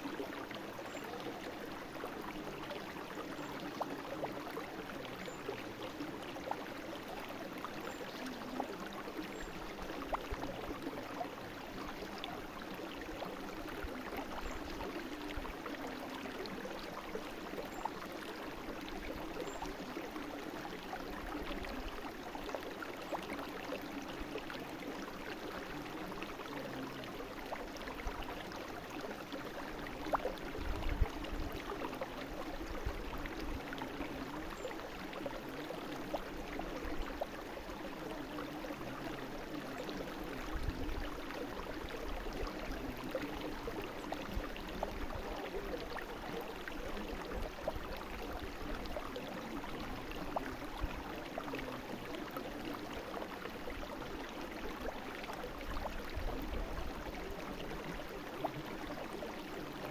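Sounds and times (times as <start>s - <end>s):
brook flowing: 0.0s - 59.9s.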